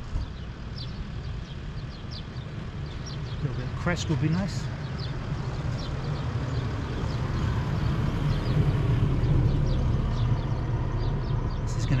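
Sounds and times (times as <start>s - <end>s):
passing motor vehicle rumble: 0.0s - 12.0s.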